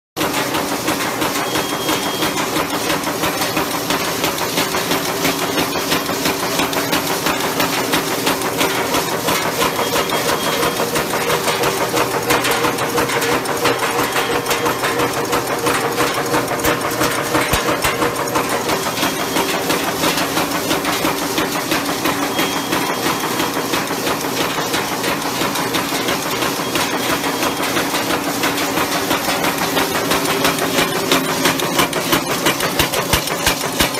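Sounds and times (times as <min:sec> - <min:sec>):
machine clattering: 0:00.2 - 0:33.9
steady machine hum: 0:00.2 - 0:33.9.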